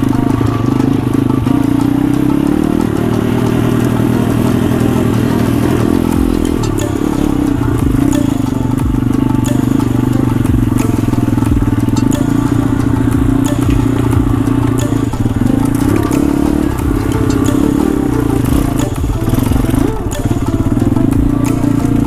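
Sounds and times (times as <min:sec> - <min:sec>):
small motorbike engine under throttle: 0:00.0 - 0:22.0.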